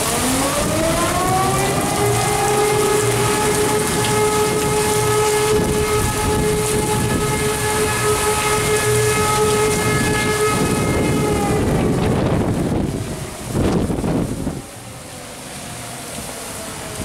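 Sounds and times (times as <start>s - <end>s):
fire siren steady tone: 0.0s - 17.0s
heavy rain pouring: 0.0s - 17.0s.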